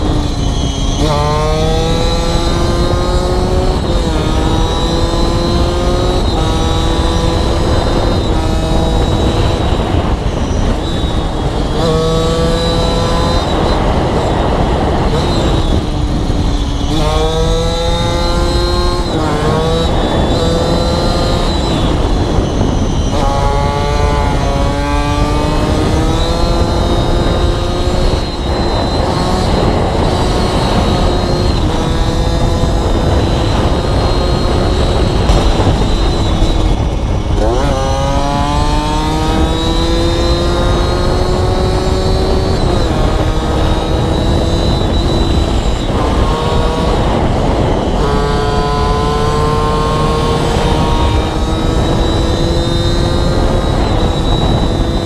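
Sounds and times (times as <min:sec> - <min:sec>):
two-stroke motorcycle engine revving: 0:00.0 - 0:55.0
wind noise on microphone: 0:00.0 - 0:55.0.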